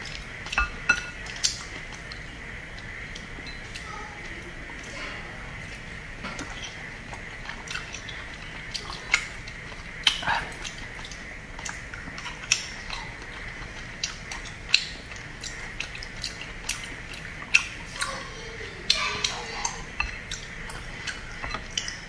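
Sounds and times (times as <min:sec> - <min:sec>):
lip smacking: 0:00.0 - 0:22.0
wet chewing: 0:00.0 - 0:22.0.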